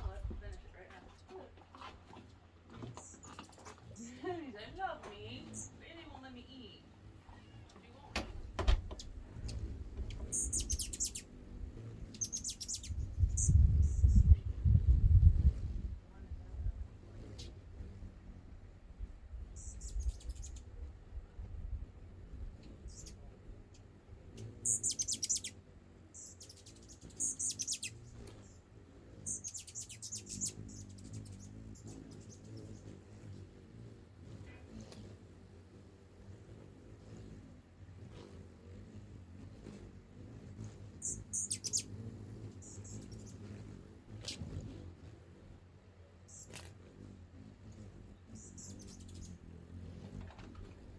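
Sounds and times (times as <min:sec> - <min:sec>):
hummingbirds chittering: 0:02.1 - 0:14.8, 0:15.4 - 0:21.1, 0:21.9 - 0:50.9.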